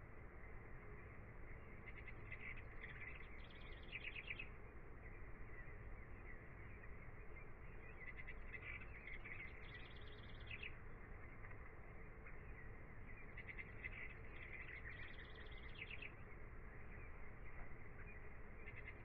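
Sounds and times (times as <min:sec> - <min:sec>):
faint birdsong: 0:00.0 - 0:19.0
steady low hiss: 0:00.0 - 0:19.0.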